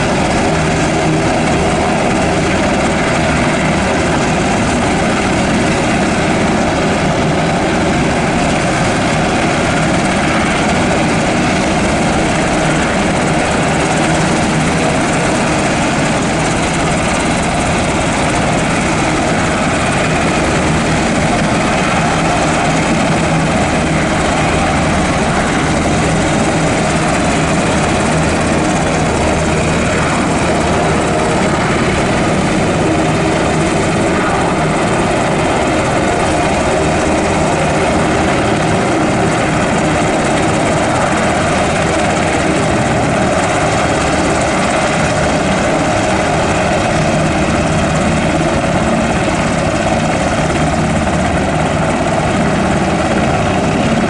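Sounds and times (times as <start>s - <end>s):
helicopter rotor noise: 0.0s - 54.0s
helicopter turbine whine: 0.0s - 54.0s.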